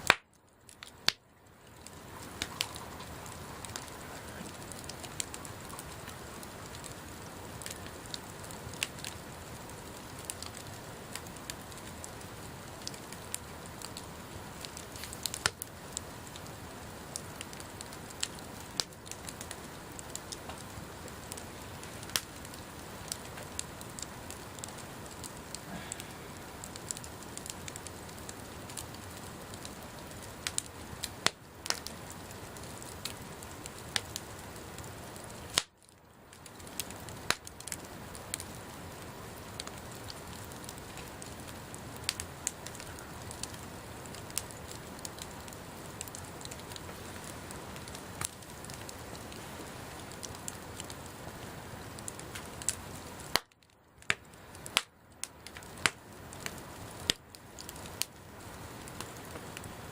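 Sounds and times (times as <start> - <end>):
bonfire crackling and popping: 0.0 - 59.9.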